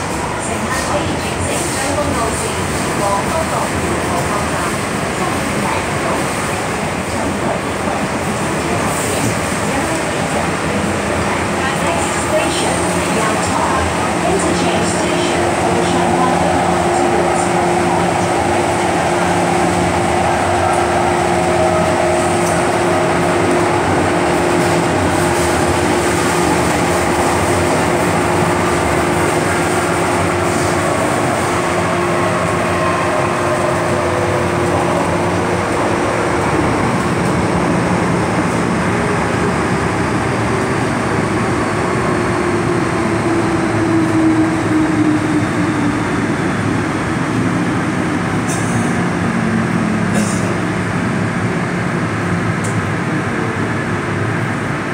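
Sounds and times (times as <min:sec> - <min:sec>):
train wheel rumble: 0:00.0 - 0:54.9.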